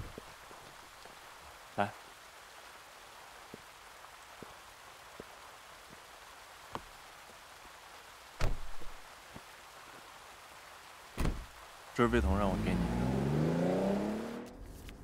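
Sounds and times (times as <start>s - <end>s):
faint steady hiss: 0.0s - 13.4s.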